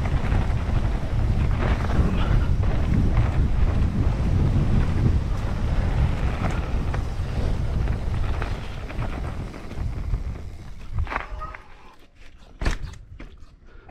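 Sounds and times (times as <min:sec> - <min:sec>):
wind buffeting microphone: 0:00.0 - 0:11.5
tyres rumbling on dirt trail: 0:00.0 - 0:12.2.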